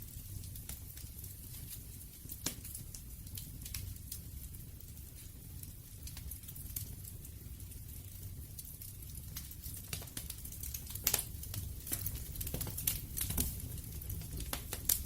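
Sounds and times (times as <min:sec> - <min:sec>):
low rumble of flame: 0:00.0 - 0:15.0
wood crackling and popping: 0:00.0 - 0:15.0.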